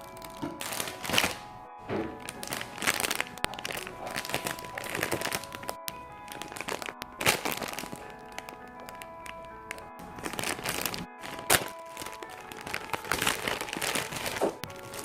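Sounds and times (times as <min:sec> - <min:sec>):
background music: 0:00.0 - 0:15.0
plastic packaging crinkling: 0:00.0 - 0:15.0.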